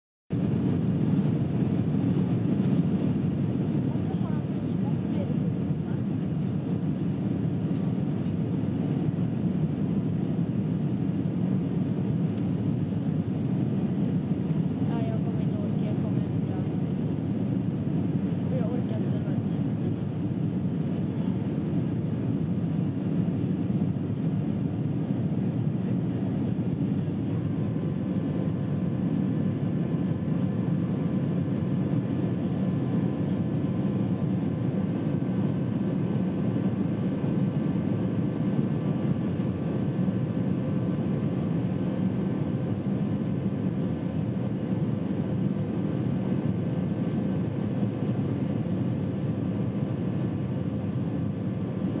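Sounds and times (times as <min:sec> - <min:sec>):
aircraft cabin engine rush: 0:00.3 - 0:52.0.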